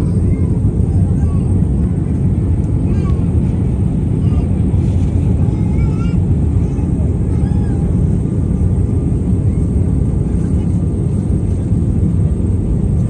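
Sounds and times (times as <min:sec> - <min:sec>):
airliner cabin rumble: 0:00.0 - 0:13.0
faint voices: 0:00.0 - 0:13.0.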